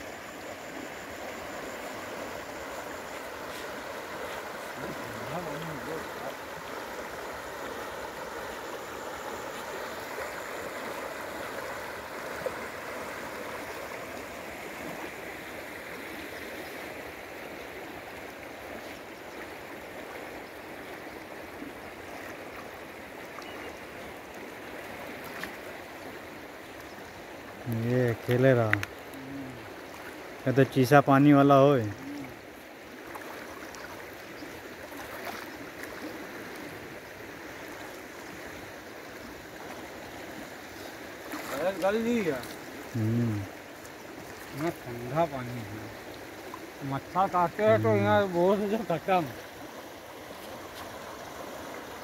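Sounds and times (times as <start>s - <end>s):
river rushing and swirling: 0.0s - 52.0s.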